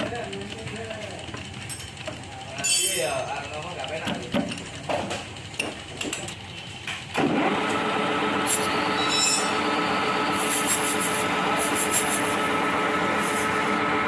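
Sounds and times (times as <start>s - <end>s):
machine motor humming and whining: 0.0s - 14.0s.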